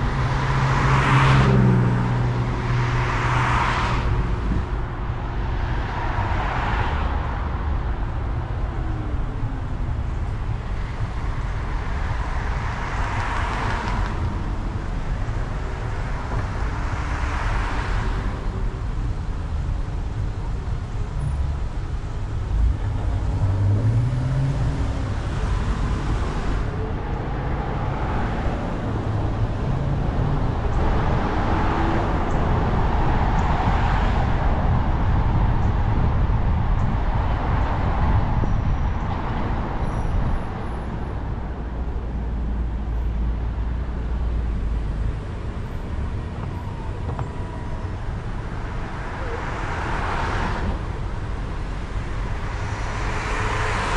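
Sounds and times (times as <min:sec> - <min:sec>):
low traffic rumble: 0:00.0 - 0:53.9
vehicles passing: 0:00.0 - 0:53.9.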